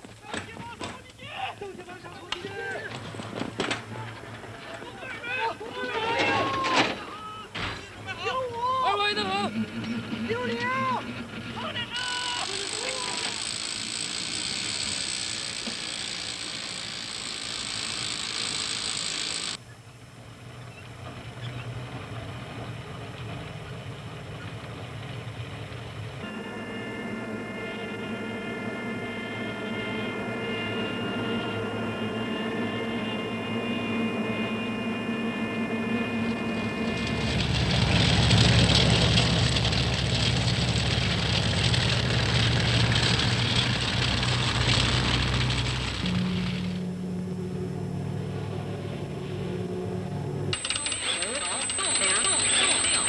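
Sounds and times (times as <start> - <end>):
rumbling hiss of tracks: 0.0 - 53.0
low engine-like hum: 2.6 - 13.4, 19.6 - 53.0.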